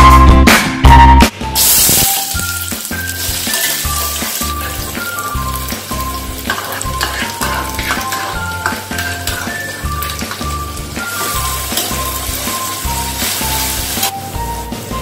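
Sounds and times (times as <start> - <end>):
background music with bass line: 0.0 - 15.0
onions sizzling in oil: 1.6 - 15.0.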